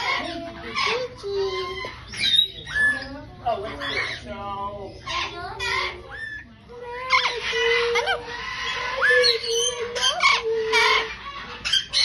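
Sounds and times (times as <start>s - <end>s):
parrots chirping and squawking: 0.0s - 12.0s.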